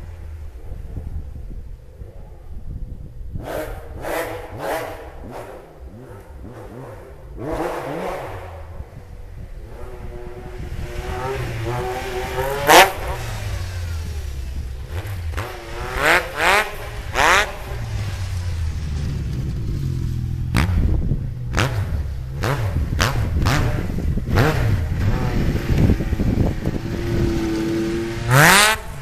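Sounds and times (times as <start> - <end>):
snowmobile engine revving: 3.4 - 29.0.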